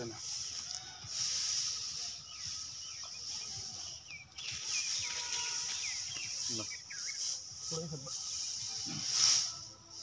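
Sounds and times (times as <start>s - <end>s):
birds chirping: 0.0s - 10.0s
high-pitched insect drone: 0.0s - 10.0s.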